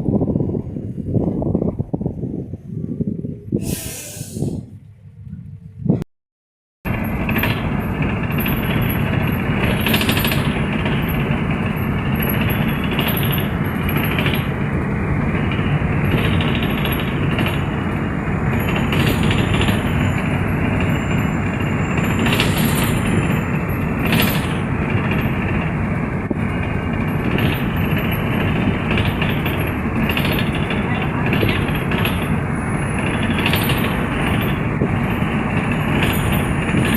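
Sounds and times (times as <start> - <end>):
road noise: 0.0 - 6.0, 6.8 - 36.9
bus engine: 0.0 - 6.1, 6.8 - 36.9.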